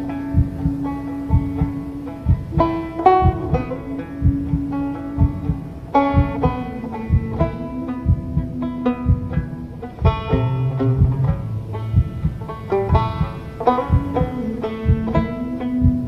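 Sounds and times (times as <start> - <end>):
banjo picking: 0.0 - 16.0
soft low pulse: 0.0 - 16.0.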